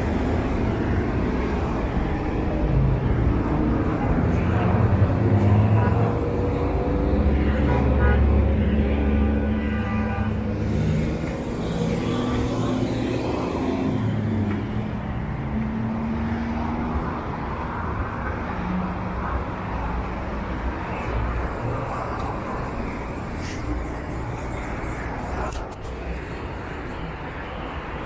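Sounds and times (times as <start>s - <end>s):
car engines: 0.0s - 28.0s.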